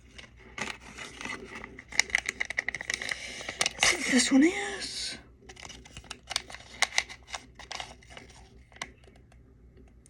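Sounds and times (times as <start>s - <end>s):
plastic wrapper crinkling: 0.0s - 4.6s, 5.4s - 9.1s.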